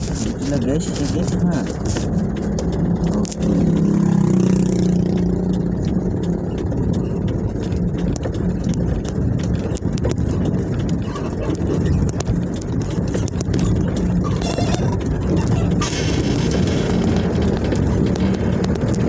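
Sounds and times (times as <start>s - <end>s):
sharp rattles and clicks: 0.0s - 19.0s
truck engine humming: 0.0s - 19.0s.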